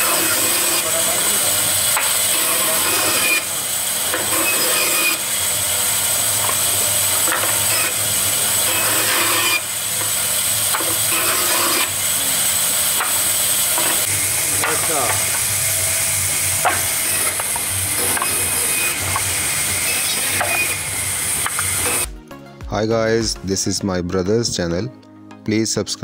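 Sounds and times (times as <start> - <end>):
band saw cutting wood: 0.0 - 22.2
saw motor running: 0.0 - 22.2.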